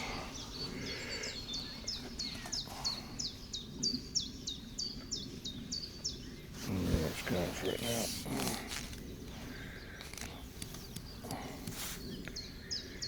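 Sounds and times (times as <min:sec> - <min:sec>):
faint outdoor hum: 0:00.0 - 0:13.0.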